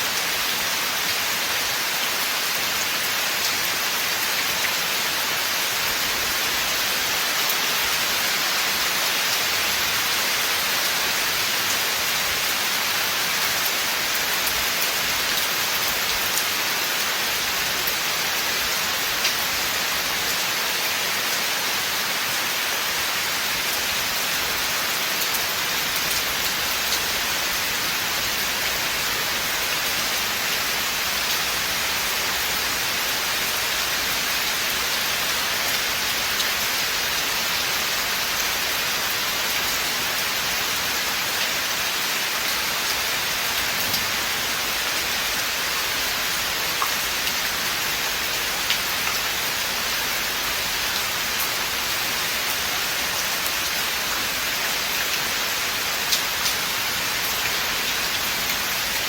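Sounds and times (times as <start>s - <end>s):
rain falling on a forest: 0.0s - 59.0s.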